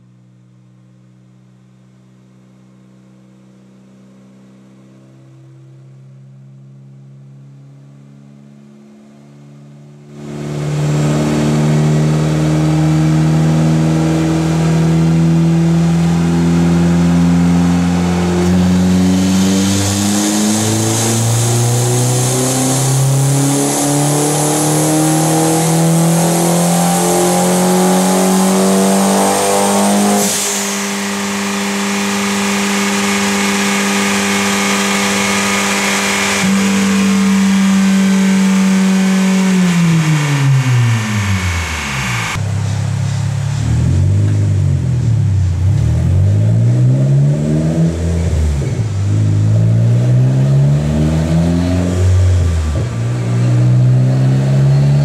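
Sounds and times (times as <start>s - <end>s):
car engine on dyno: 0.0s - 55.0s.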